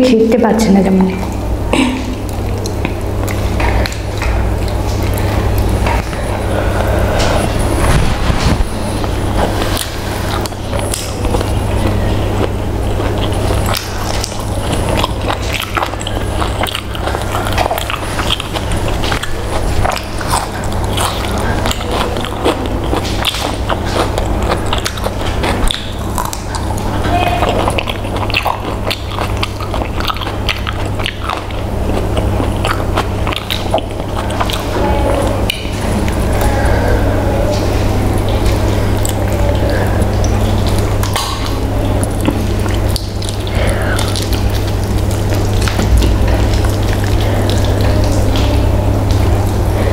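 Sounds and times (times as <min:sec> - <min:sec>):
low hum: 0:00.0 - 0:49.9
chicken squelching and tearing: 0:01.3 - 0:49.9
person chewing food: 0:01.3 - 0:49.9.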